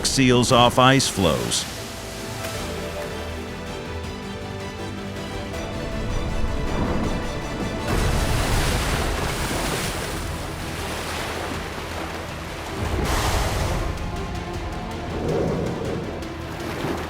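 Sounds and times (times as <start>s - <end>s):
background music: 0.0s - 17.0s
waves surging: 0.0s - 17.0s.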